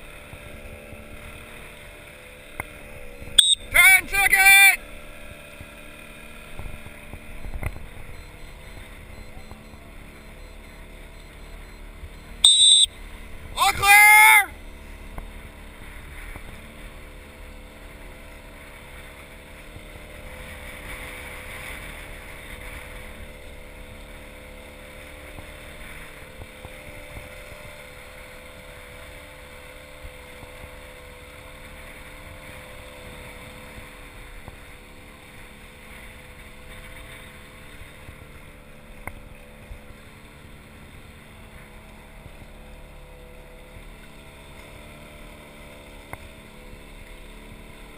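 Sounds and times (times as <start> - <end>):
outboard motor running: 0.0 - 47.9
wind: 0.0 - 47.9.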